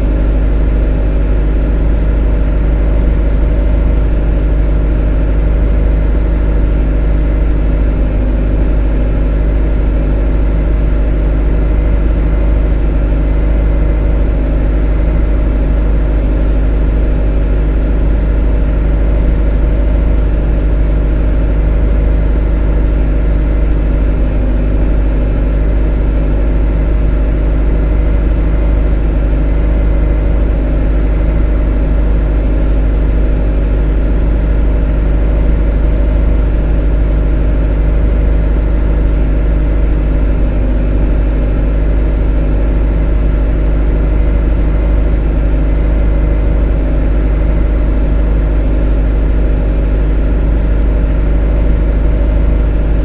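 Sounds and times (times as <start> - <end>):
motor droning: 0.0 - 53.0.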